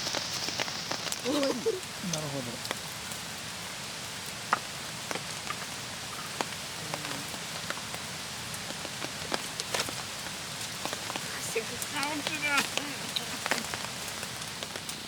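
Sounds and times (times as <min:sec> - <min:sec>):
sharp ticks and pops: 0:00.0 - 0:01.3, 0:04.1 - 0:15.0
light rain hiss: 0:00.0 - 0:15.0.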